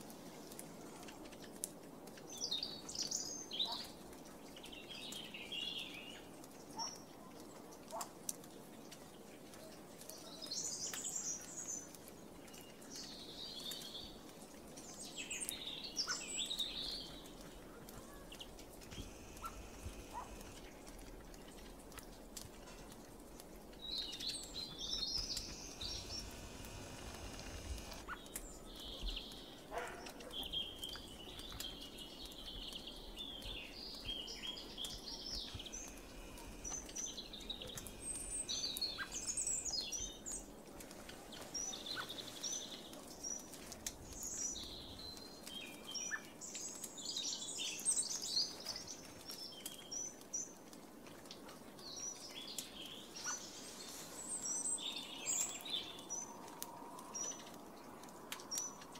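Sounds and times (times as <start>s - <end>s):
songbirds chirping and trilling: 0.5s - 58.9s.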